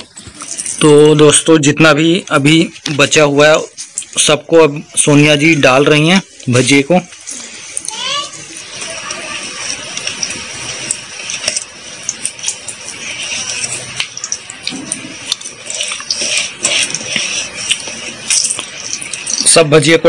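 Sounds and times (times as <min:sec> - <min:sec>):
batter deep-frying in oil: 0:00.0 - 0:20.0.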